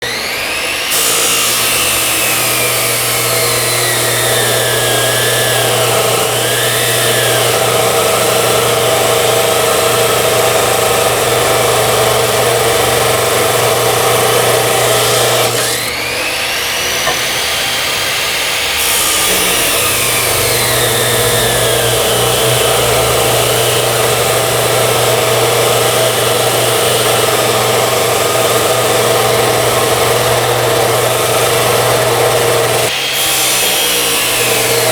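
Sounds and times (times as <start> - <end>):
circular saw cutting metal: 0.0 - 34.9.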